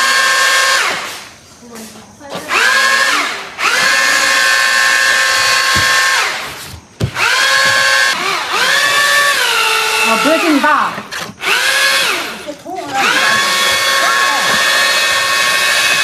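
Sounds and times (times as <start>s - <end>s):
paddle mixer motor whine: 2.5s - 16.0s.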